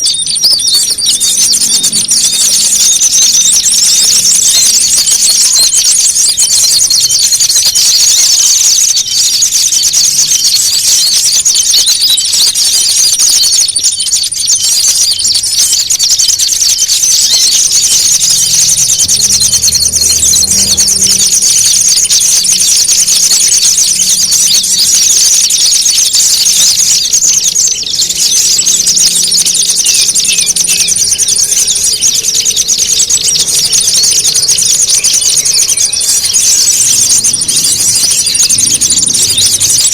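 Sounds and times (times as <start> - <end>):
songbirds chattering and trilling: 0.0 - 39.9.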